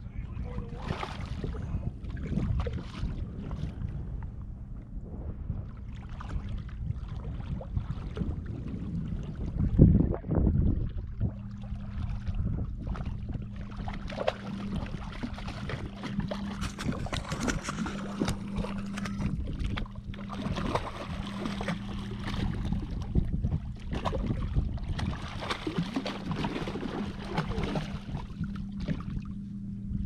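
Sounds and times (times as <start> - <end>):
steady low hum: 0.0 - 30.0
water splashing at boat side: 0.4 - 3.9, 5.8 - 29.4.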